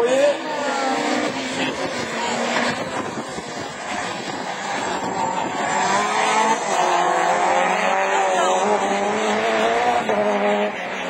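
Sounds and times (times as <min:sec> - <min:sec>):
racing car engines running hard: 0:00.0 - 0:11.0.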